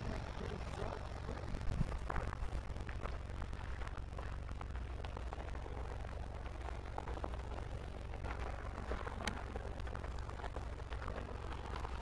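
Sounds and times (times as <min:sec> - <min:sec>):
wind rumble: 0:00.0 - 0:12.0
small rustles and clicks: 0:01.5 - 0:12.0.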